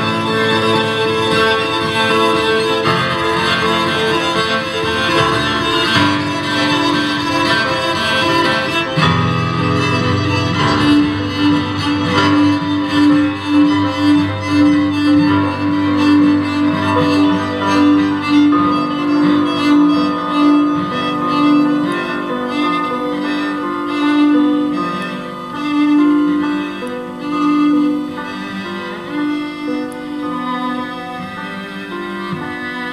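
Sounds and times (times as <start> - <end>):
cello: 0.0 - 32.9
grand piano: 0.0 - 32.9
violin: 0.0 - 32.9.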